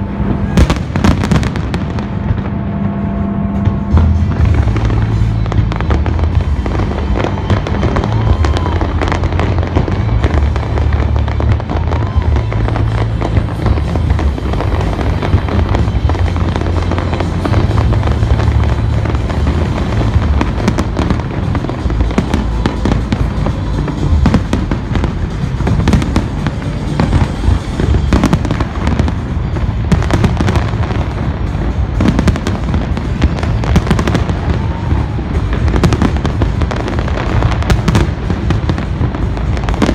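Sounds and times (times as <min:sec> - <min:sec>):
fireworks bangs and crackles: 0:00.0 - 0:39.9
music with strong bass: 0:00.0 - 0:39.9.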